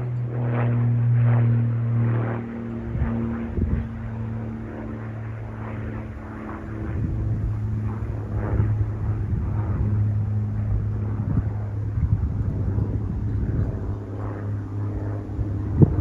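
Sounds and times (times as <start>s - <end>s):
airliner engine hum: 0.0s - 16.0s.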